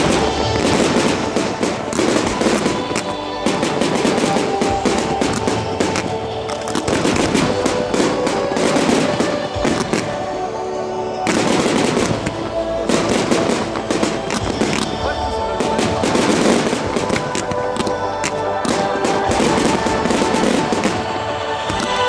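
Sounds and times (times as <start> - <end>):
fireworks crackling and banging: 0.0 - 22.0
music with long held notes: 0.0 - 22.0.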